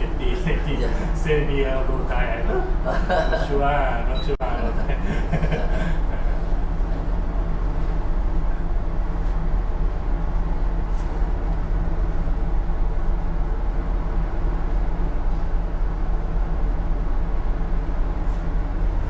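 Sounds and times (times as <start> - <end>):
ship machinery rumbling: 0.0 - 19.0.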